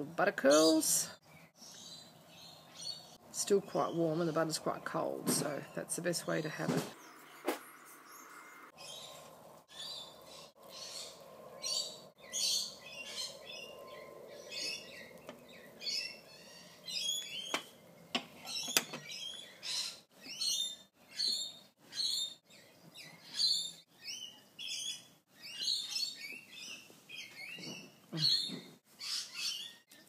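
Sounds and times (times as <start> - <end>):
bird chirping: 0.4 - 30.0.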